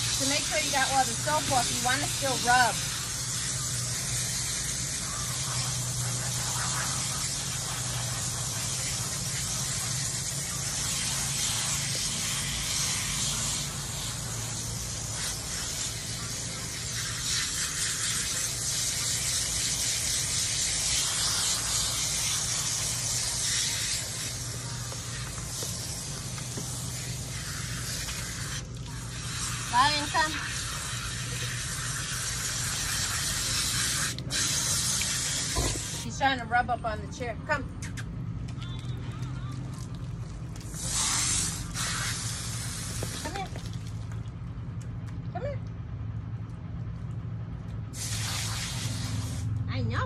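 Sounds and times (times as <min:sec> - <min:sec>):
hose nozzle spraying water: 0:00.0 - 0:36.2, 0:39.4 - 0:44.3, 0:47.9 - 0:49.6.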